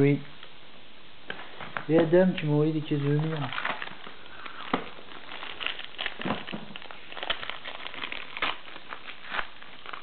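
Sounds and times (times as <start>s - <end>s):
foil wrapper crinkling: 1.3s - 10.0s.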